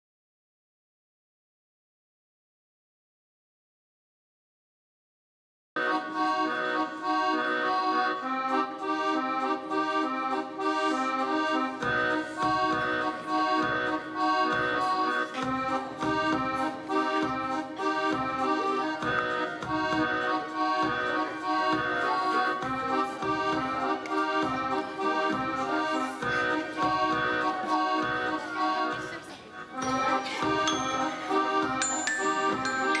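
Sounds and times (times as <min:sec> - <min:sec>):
accordion dance tune: 0:05.8 - 0:33.0.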